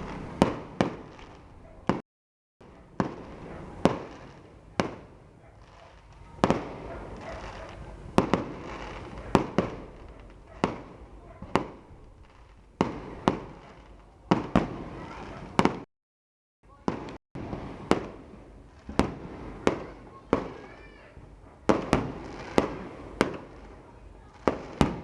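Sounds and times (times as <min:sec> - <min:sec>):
fireworks bangs: 0:00.0 - 0:02.0, 0:02.7 - 0:15.9, 0:16.7 - 0:25.0.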